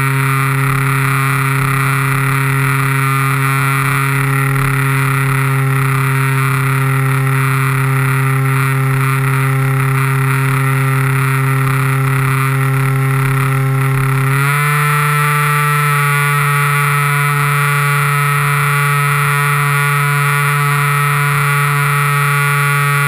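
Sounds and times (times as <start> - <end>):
model plane motor whine: 0.0 - 23.0.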